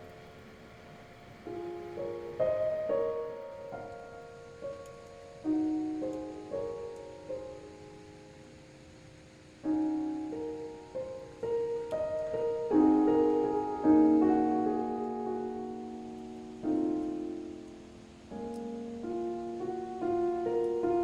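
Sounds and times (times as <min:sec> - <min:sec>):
slow gentle chords: 0:00.0 - 0:21.0.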